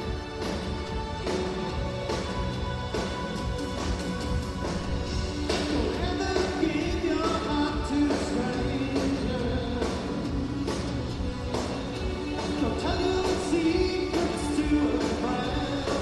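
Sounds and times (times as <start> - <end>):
bass: 0.0 - 16.0
drums: 0.0 - 16.0
keyboards: 0.0 - 16.0.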